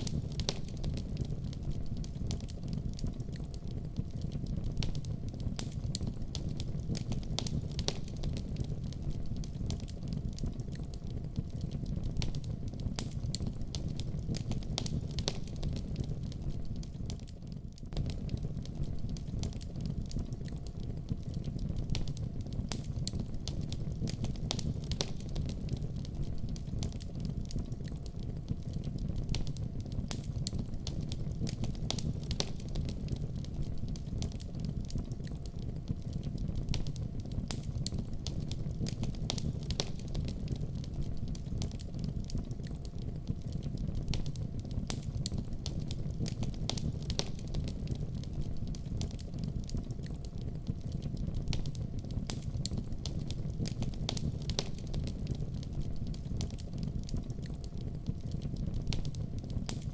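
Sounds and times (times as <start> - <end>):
fire crackling and popping: 0.0 - 59.9
wood fire burning: 0.0 - 59.9.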